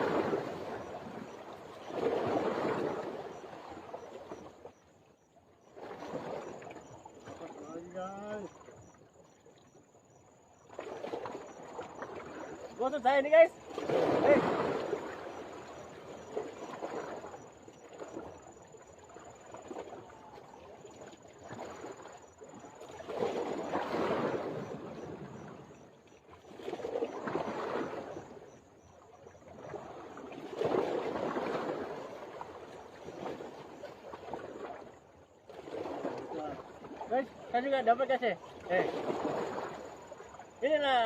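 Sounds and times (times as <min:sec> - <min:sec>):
water lapping and sloshing: 0:00.0 - 0:41.0.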